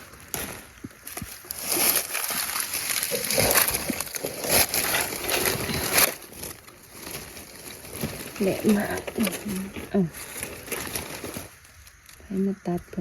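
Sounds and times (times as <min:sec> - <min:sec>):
rustling and crunching: 0:00.0 - 0:13.0.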